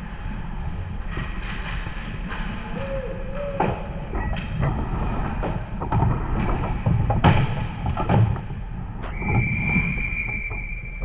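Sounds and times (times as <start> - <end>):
low arena rumble: 0.0 - 11.0
hockey sticks and puck clacking: 1.1 - 10.8.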